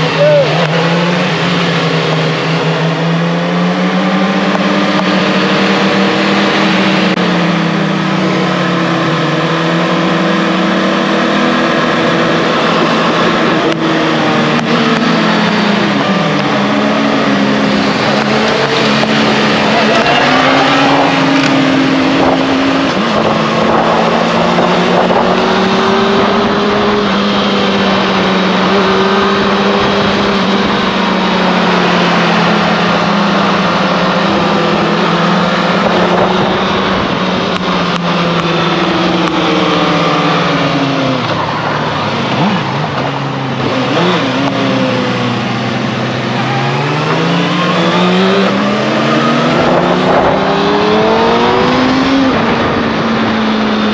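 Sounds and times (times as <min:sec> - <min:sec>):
motorcycle engine running: 0:00.0 - 0:53.9
steady rush of noise: 0:00.0 - 0:53.9.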